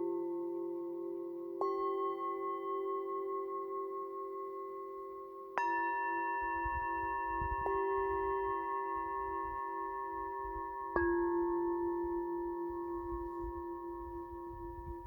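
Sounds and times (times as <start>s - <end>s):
singing bowls ringing: 0.0s - 15.0s.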